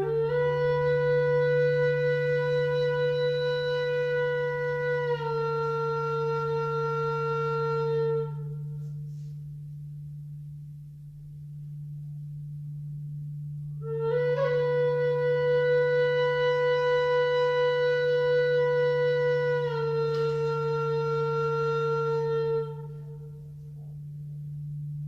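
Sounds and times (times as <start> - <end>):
flute long held note: 0.0 - 10.3, 13.0 - 25.0
singing bowl drone: 0.0 - 25.0.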